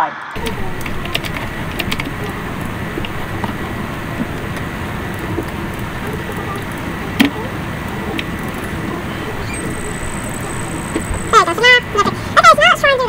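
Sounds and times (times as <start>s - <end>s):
flickering rush of noise: 0.4s - 12.9s.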